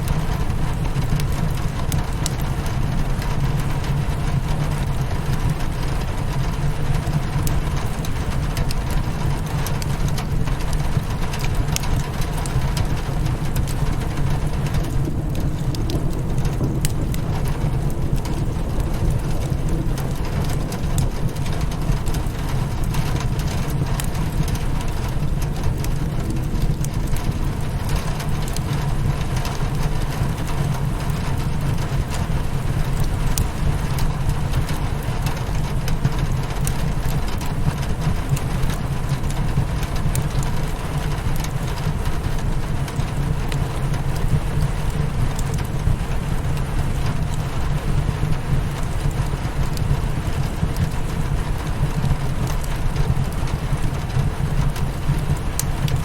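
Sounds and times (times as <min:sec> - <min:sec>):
rain on a windowpane: 0:00.0 - 0:56.0
wood fire crackling: 0:00.0 - 0:56.0.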